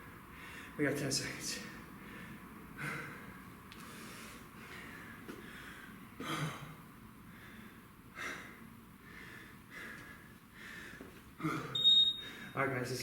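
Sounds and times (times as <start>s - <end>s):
man breathing hard: 0.0s - 0.8s, 1.5s - 12.6s.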